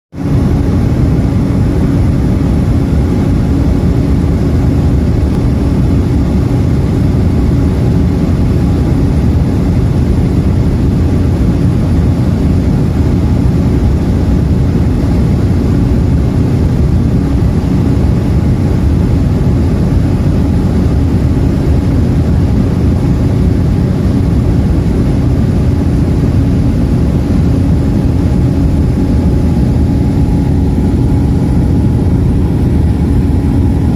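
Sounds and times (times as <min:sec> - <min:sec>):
aircraft cabin drone: 0:00.1 - 0:33.9.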